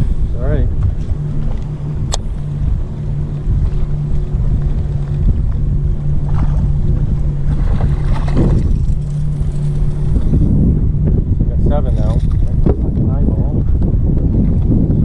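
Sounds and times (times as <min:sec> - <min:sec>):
boat motor humming: 0:00.0 - 0:15.0
wind rumbling on microphone: 0:00.0 - 0:15.0.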